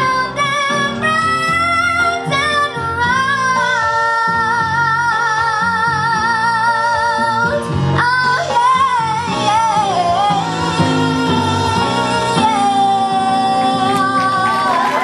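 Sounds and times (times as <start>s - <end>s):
instrumental accompaniment: 0.0s - 15.0s
woman singing into microphone: 0.0s - 15.0s.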